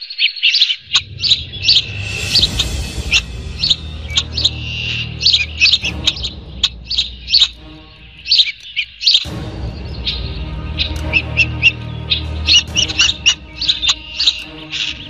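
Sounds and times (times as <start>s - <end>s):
bird chirping: 0.0s - 15.0s
low musical drone: 0.8s - 15.0s.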